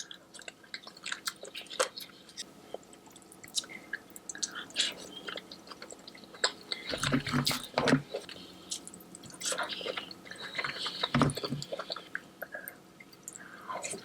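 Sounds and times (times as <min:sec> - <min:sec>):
wet chewing and lip-smacking: 0:00.0 - 0:14.0.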